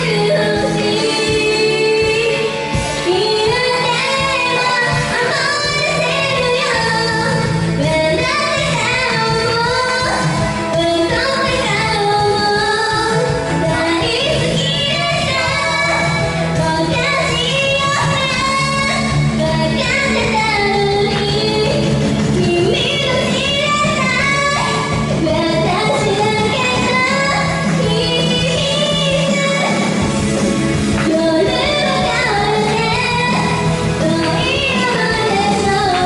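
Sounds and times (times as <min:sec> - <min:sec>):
woman singing live: 0:00.0 - 0:30.0, 0:30.8 - 0:36.0
loud backing music with beat: 0:00.0 - 0:36.0.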